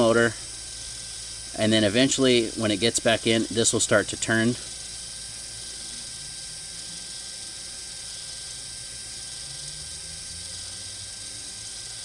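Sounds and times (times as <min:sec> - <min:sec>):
electric motor whirring faintly: 0:00.0 - 0:12.0.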